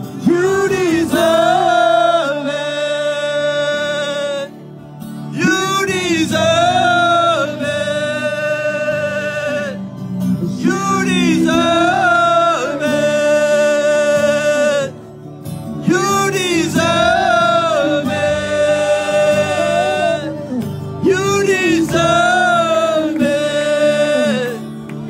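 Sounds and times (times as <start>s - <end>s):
person singing: 0.1s - 4.6s, 5.3s - 15.1s, 15.8s - 25.0s.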